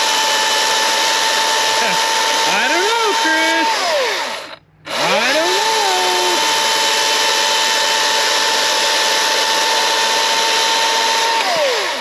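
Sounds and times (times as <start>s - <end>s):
chainsaw whining: 0.0s - 12.0s.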